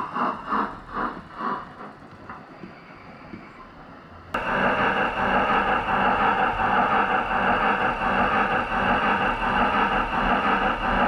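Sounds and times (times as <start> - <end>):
faint model train running noise: 0.0 - 11.0
model steam locomotive chuffs: 0.0 - 11.0.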